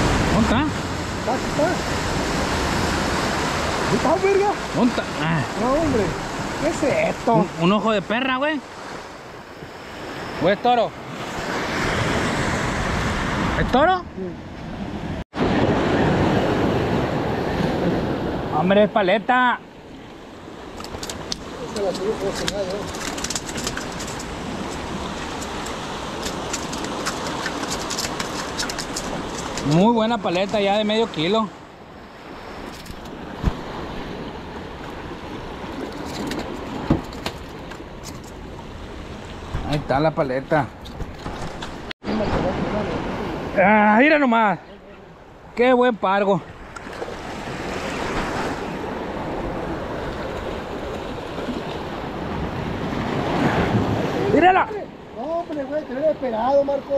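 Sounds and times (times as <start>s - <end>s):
waves splashing over rocks: 0.0s - 14.0s, 15.4s - 44.6s, 45.2s - 56.9s.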